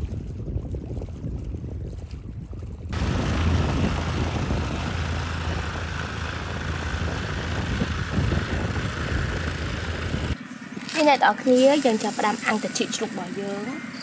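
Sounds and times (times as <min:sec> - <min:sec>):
motorboat engine droning: 0:00.0 - 0:14.0
wind and water rushing: 0:00.0 - 0:14.0.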